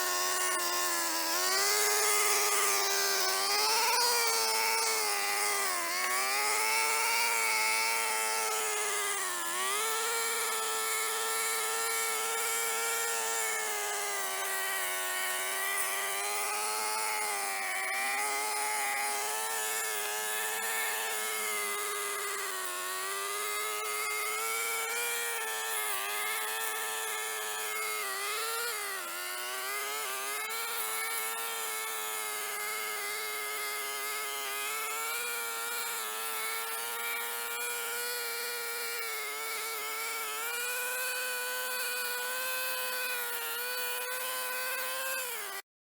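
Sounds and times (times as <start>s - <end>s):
brush cutter whining: 0.0s - 45.6s.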